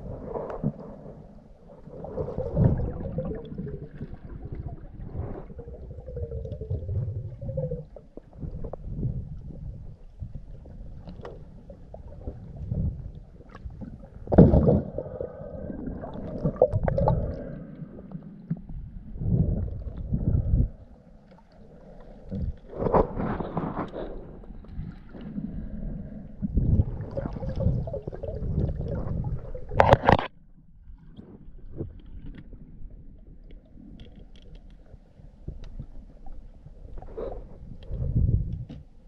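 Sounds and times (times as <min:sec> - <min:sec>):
water sloshing underwater: 0:00.0 - 0:39.0.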